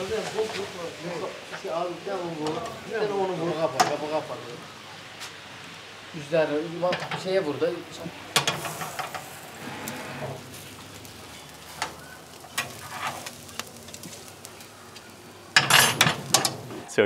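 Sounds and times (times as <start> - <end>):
meat sizzling on a grill: 0.0 - 17.0.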